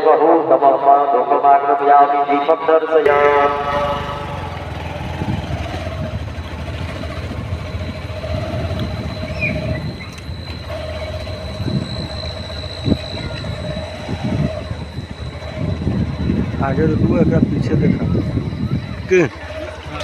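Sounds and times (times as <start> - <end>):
mid-pitched drone: 2.1 - 20.0
faint high whine: 2.2 - 20.0
vehicle engine rumble: 3.0 - 20.0.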